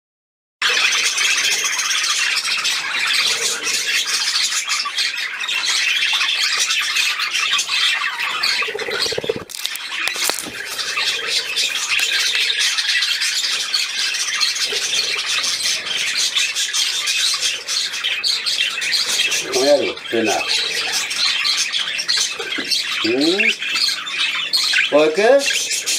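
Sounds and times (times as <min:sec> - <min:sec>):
budgerigars chattering and squawking: 0:00.6 - 0:25.9.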